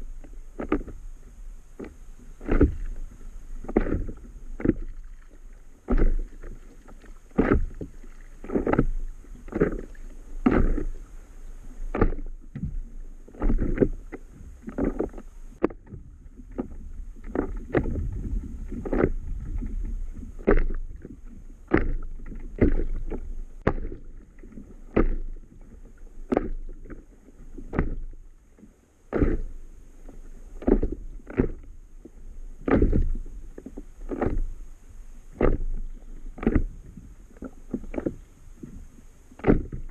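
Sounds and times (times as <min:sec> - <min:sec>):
low wash of water: 0:00.0 - 0:39.9
small waves slapping a paddle board: 0:00.0 - 0:39.9.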